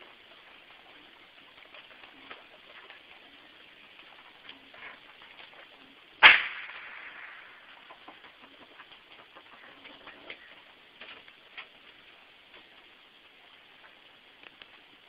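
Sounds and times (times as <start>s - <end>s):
faint ticks and scratches: 0.0s - 6.2s, 6.8s - 15.0s.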